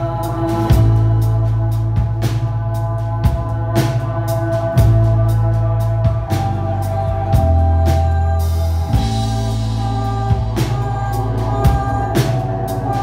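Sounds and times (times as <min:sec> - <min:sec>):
drum kit beat: 0:00.0 - 0:13.0
electric bass notes: 0:00.0 - 0:13.0.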